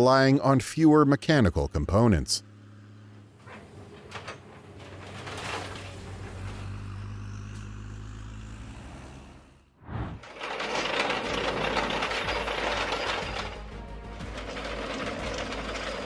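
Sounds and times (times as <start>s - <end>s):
heavy machine engine humming: 1.3s - 16.0s
dense clattering machinery: 2.6s - 16.0s.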